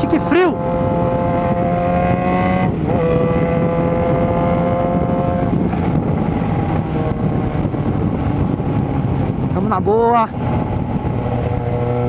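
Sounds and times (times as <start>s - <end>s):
motorcycle engine: 0.0s - 12.0s
wind rush: 0.0s - 12.0s.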